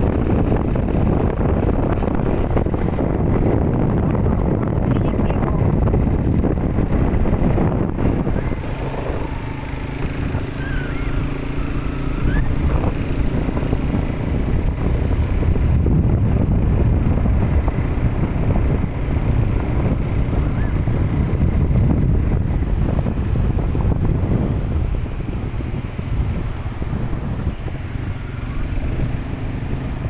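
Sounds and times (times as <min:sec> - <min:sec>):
motorcycle engine running: 0:00.0 - 0:30.0
wind rumbling on microphone: 0:00.0 - 0:30.0.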